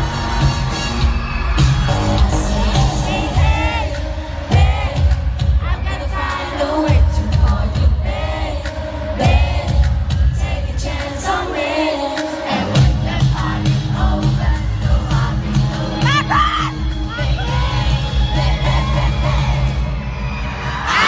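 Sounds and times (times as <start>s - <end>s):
live pop music with bass beat: 0.0s - 21.0s.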